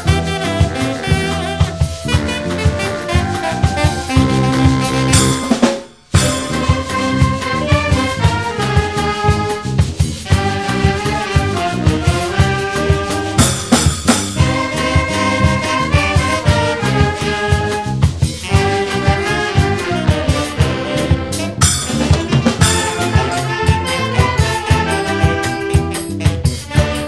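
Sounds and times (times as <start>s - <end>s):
quick drum and percussion beat: 0.0s - 27.0s
trumpets and trombones playing: 0.0s - 27.0s.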